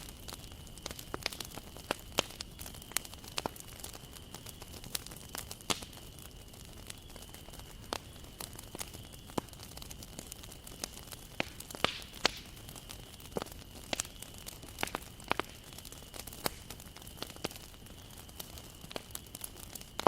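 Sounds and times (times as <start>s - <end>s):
fire hissing: 0.0s - 20.0s
wood fire popping and snapping: 0.0s - 20.0s.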